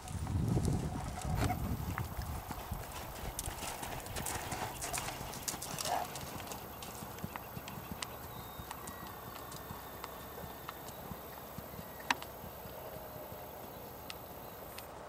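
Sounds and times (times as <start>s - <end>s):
hoofbeats on sand: 0.0s - 14.9s.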